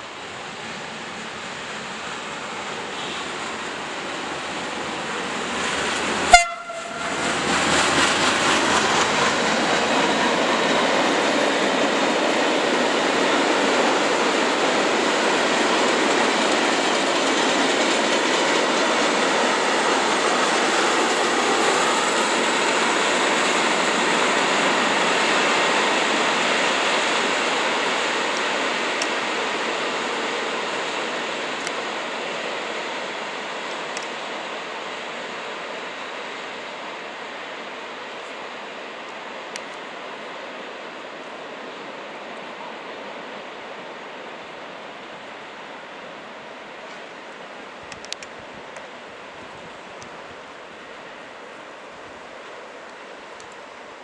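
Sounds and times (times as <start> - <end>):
train rushing past: 0.0 - 54.0.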